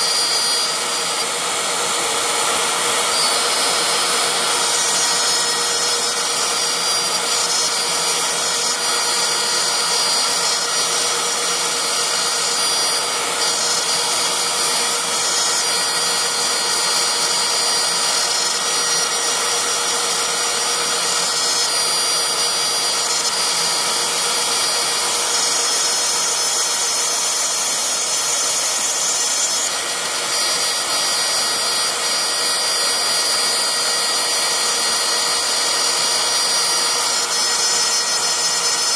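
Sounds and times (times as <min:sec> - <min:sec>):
metal cutting noise: 0:00.0 - 0:38.9
router spindle whining: 0:00.0 - 0:38.9.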